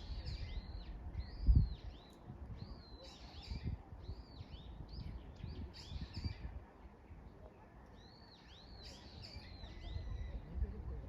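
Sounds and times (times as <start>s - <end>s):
songbird chirping: 0.0s - 6.5s, 7.8s - 10.7s.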